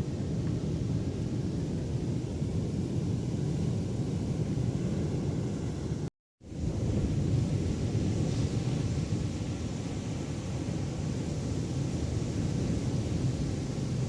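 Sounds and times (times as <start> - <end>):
low rumble of surf: 0.0 - 14.0
wind on microphone: 0.0 - 14.0.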